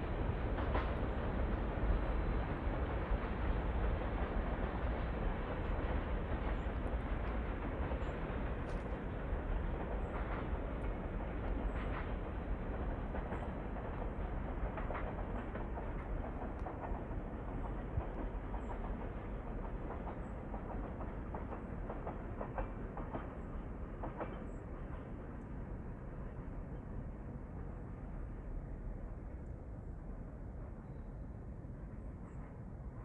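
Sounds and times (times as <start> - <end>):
freight train cars rumbling: 0.0 - 33.0.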